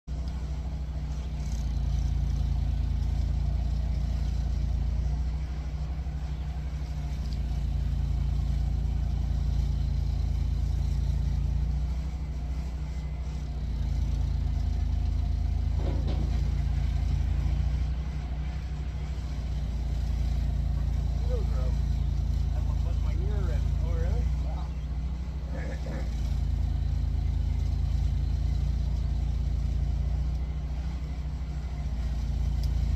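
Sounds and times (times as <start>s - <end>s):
engine running steadily: 0.0s - 32.9s.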